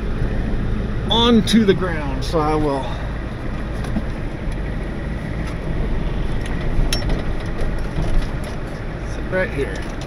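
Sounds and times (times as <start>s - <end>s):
truck engine low rumble: 0.0s - 10.0s.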